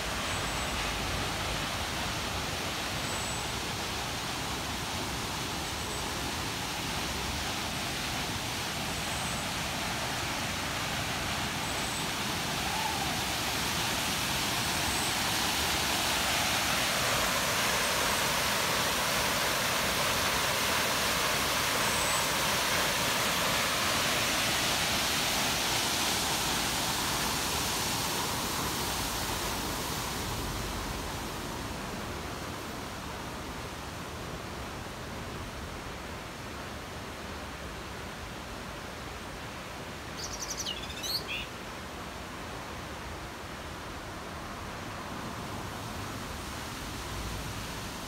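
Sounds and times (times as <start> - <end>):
waterfall rushing into pool: 0.0 - 48.0.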